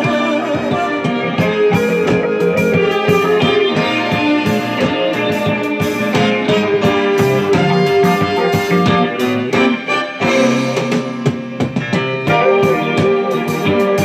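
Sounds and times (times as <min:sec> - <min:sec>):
band playing instrumental: 0:00.0 - 0:14.0
guitar over steady beat: 0:00.0 - 0:14.0.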